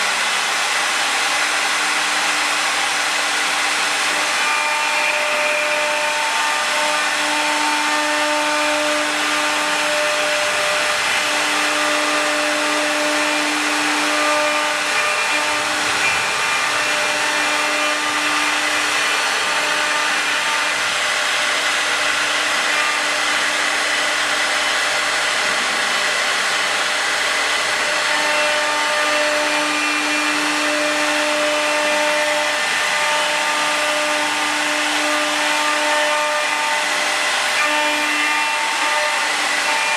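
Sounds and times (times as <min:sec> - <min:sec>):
cnc router spindles whirring: 0:00.0 - 0:39.9
cutting whine: 0:00.0 - 0:39.9.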